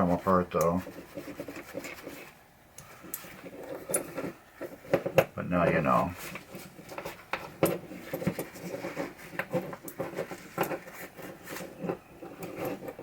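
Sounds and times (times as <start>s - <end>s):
scratchy rubbing and scrubbing: 0.0s - 13.0s.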